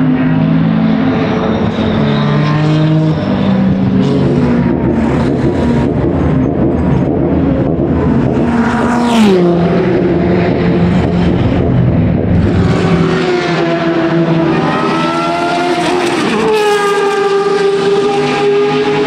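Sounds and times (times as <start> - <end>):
racing car accelerating: 0.0 - 19.0
racing car passing at speed: 0.2 - 19.0.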